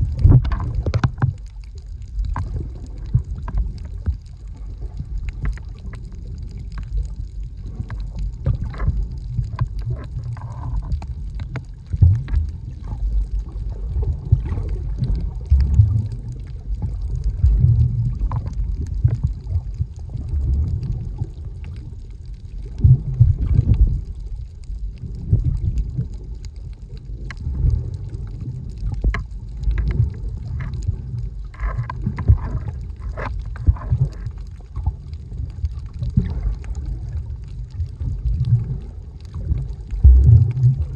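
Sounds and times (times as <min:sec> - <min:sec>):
sloshing and bubbling: 0:00.0 - 0:40.9
underwater rumble of moving water: 0:00.0 - 0:40.9
small scattered clicks: 0:00.1 - 0:40.9.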